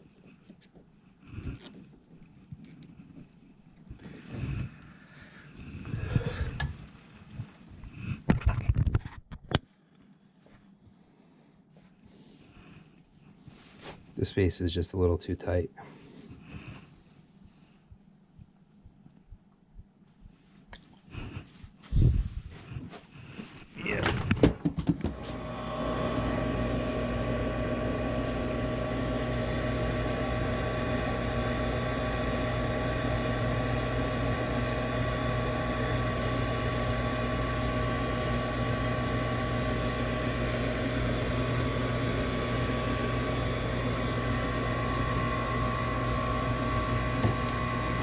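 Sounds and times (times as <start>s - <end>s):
furnace inducer motor humming: 0.0s - 8.5s, 10.4s - 48.0s.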